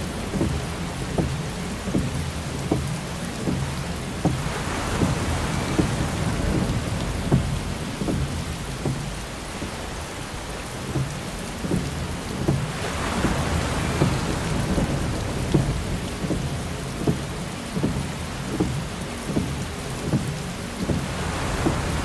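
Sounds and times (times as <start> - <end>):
heavy rain on windshield: 0.0 - 22.0
windshield wipers knocking: 0.0 - 22.0.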